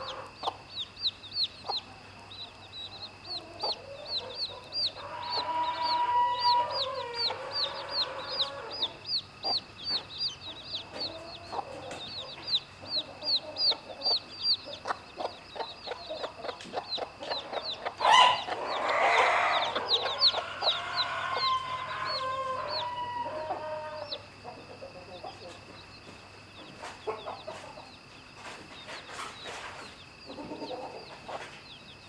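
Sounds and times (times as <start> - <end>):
hen clucking: 0.0 - 26.0, 26.6 - 28.0, 28.8 - 31.6
chicks peeping: 0.0 - 32.0.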